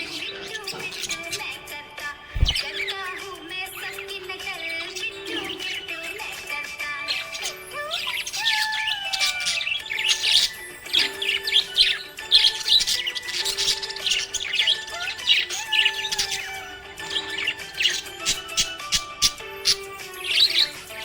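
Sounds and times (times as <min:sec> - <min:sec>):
budgerigars chirping: 0:00.0 - 0:21.0.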